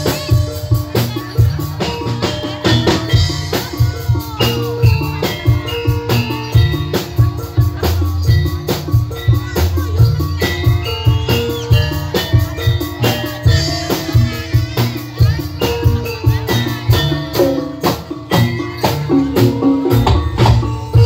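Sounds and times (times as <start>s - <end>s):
deep drum notes: 0.0s - 21.0s
rapid drum strokes: 0.0s - 21.0s
struck metal percussion: 0.0s - 21.0s.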